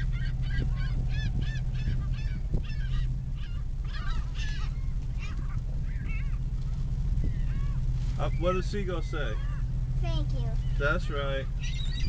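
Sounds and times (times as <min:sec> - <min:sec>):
low hum: 0:00.0 - 0:12.0
seagulls calling: 0:00.0 - 0:12.0.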